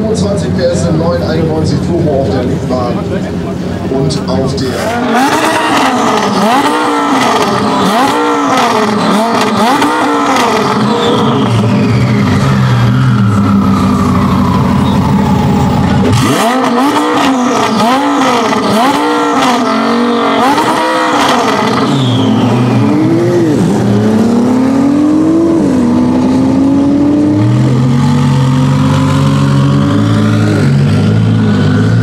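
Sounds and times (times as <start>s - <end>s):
car engine idling: 0.0s - 32.0s
car engine revving with cracks: 0.0s - 32.0s.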